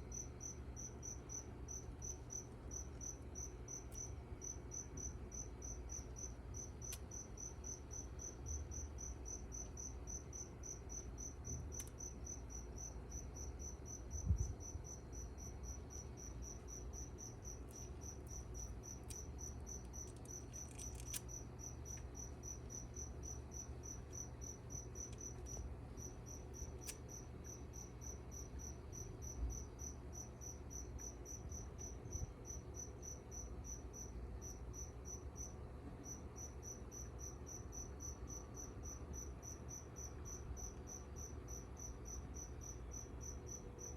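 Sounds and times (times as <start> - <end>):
cricket chirping: 0.0 - 43.9
low room rumble: 0.0 - 43.9.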